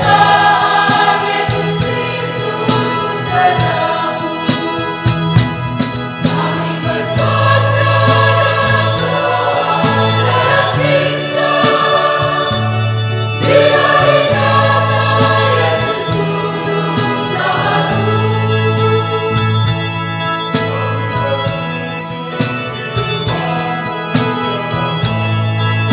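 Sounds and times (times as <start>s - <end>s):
choir singing a hymn: 0.0s - 25.9s.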